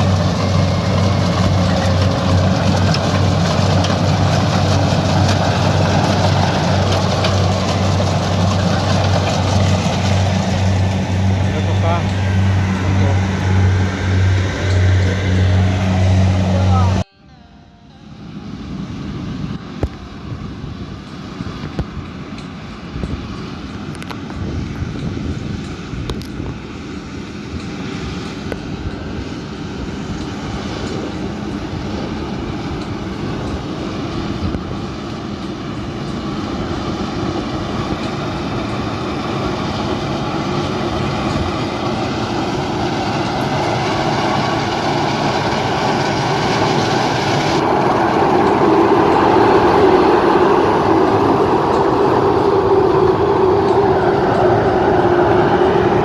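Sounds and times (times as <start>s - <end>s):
combine harvester engine and threshing: 0.0s - 17.1s, 17.9s - 56.0s.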